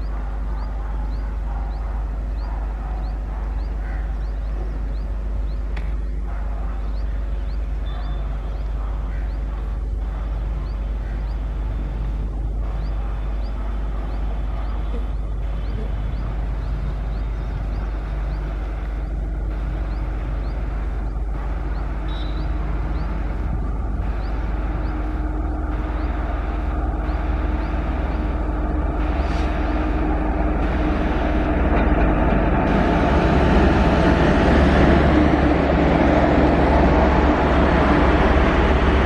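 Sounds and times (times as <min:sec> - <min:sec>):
locomotive motors humming: 0:00.0 - 0:39.0
train wheels rumbling on rails: 0:00.0 - 0:39.0.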